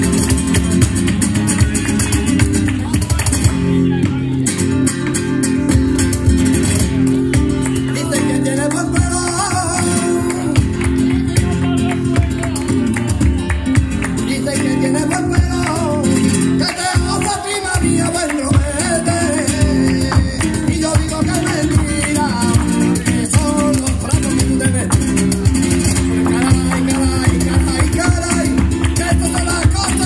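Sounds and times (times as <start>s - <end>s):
hand-clapping: 0.0s - 4.2s, 4.9s - 30.0s
cajon hits: 0.0s - 30.0s
strummed flamenco guitar: 0.0s - 30.0s.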